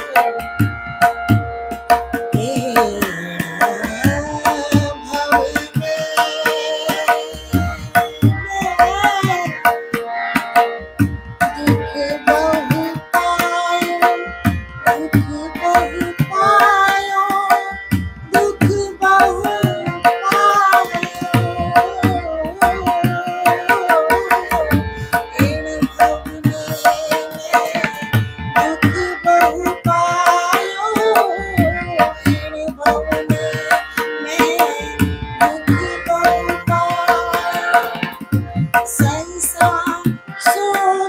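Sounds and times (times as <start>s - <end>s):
keyboard drone: 0.0s - 41.0s
tabla rhythm: 0.0s - 41.0s
woman singing devotional song: 2.3s - 9.8s, 11.4s - 41.0s.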